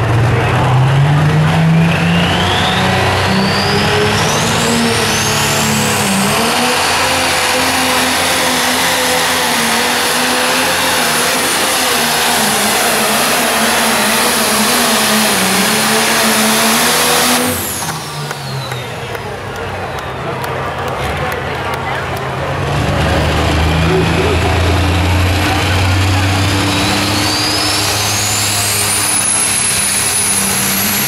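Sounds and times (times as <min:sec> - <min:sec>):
diesel tractor engine under load: 0:00.0 - 0:31.0
high turbo whine: 0:00.0 - 0:31.0.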